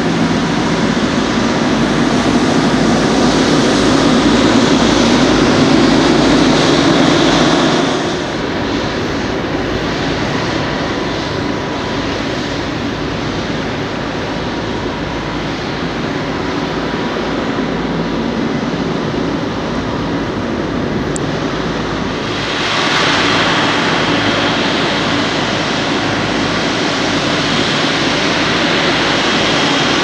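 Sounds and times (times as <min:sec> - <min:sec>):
jet engines at taxi power: 0:00.0 - 0:30.0.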